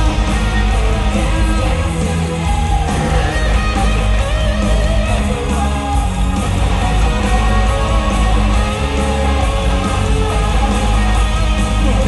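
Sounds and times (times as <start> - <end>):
loud rock music: 0.0 - 12.0.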